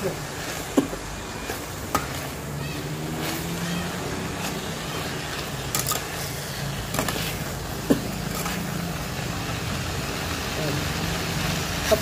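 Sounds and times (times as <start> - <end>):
induction cooker humming: 0.0 - 12.0
vegetables frying: 0.0 - 12.0.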